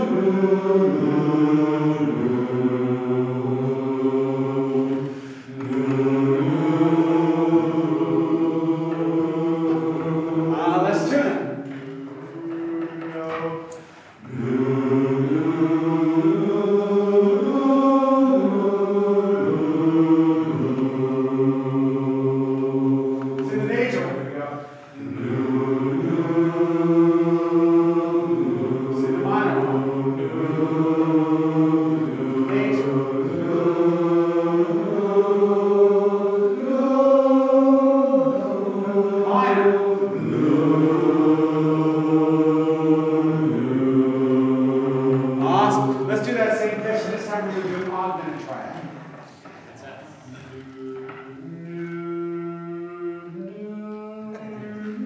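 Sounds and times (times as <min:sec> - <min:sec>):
men's chorus singing: 0:00.0 - 0:55.0.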